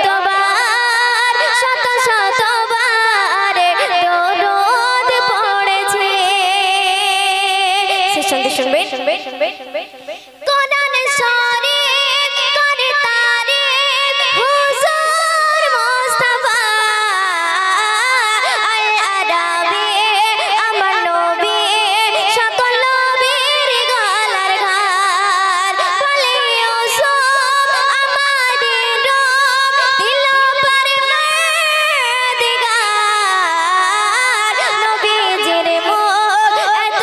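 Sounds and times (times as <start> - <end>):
girl singing into a microphone: 0.0 - 37.0.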